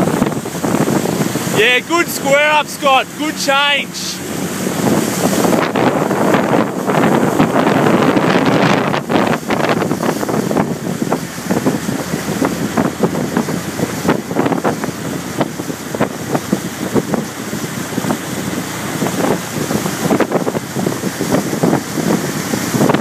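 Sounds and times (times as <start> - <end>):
water rushing past boat: 0.0 - 23.0
water splashes and slaps: 0.0 - 23.0
wind buffeting microphone: 0.0 - 23.0.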